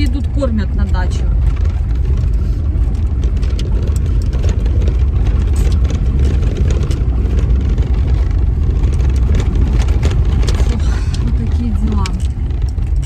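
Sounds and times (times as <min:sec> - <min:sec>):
car engine and tyre rumble: 0:00.0 - 0:13.0
light rattles: 0:00.0 - 0:13.0.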